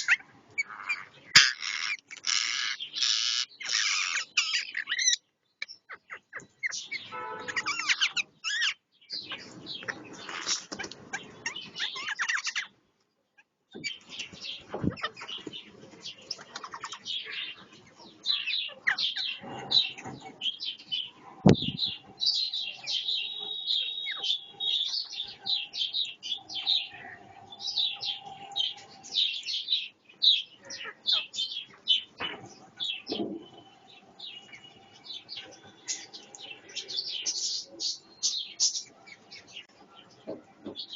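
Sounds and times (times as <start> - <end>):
parrots chirping and chattering: 0.0 - 40.9.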